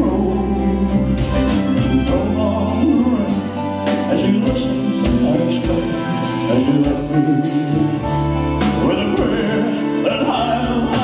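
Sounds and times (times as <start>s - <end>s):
live band playing slow ballad: 0.0s - 11.0s.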